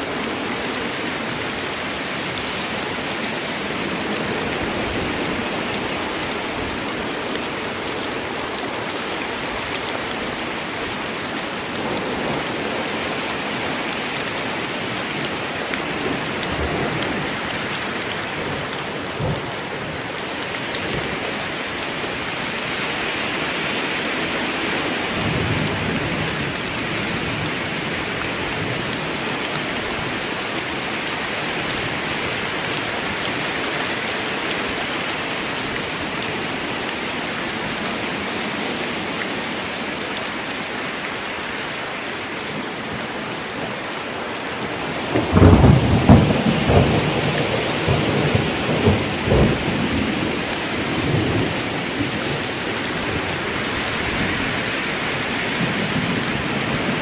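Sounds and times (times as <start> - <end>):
rain falling in forest: 0.0 - 57.0.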